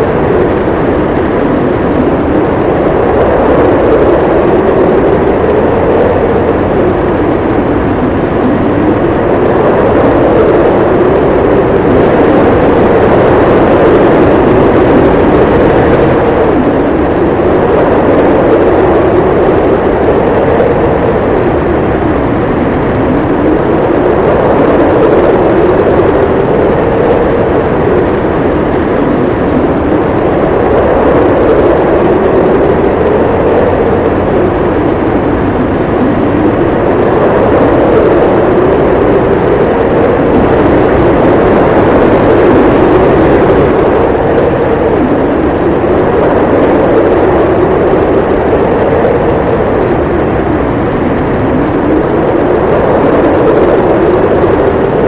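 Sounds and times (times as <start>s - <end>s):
howling wind: 0.0s - 55.0s.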